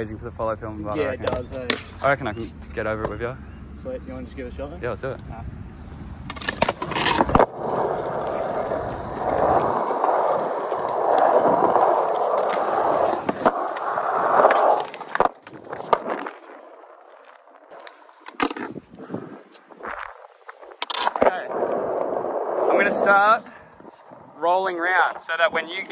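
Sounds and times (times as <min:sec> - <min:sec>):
skateboard wheels rolling on concrete: 0:00.0 - 0:03.2, 0:05.7 - 0:25.9.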